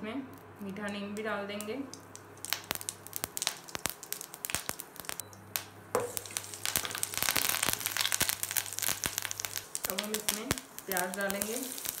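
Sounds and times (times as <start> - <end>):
seeds popping in hot oil: 0.3 - 12.0
leaves sizzling in oil: 1.6 - 12.0.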